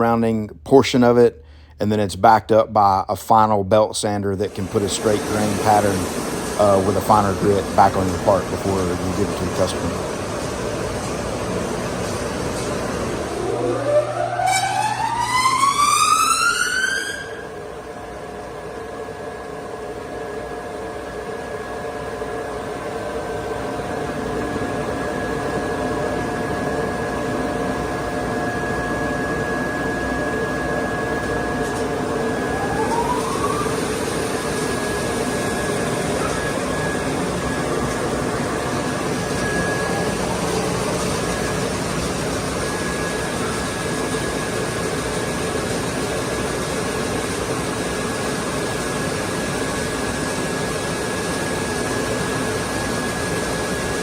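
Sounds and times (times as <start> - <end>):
sanding machine hum with whines: 4.4 - 54.0.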